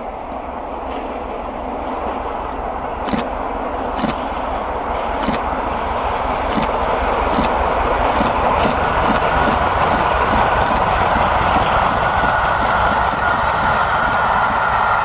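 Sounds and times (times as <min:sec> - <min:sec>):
sharp clicks of train wheels: 0:00.0 - 0:15.0
steam train passing with rushing roar: 0:00.0 - 0:15.0.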